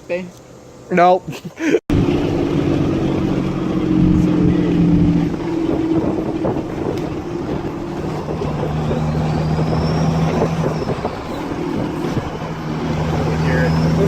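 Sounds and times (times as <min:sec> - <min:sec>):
motor humming: 0:01.9 - 0:14.0
rushing noise: 0:01.9 - 0:14.0.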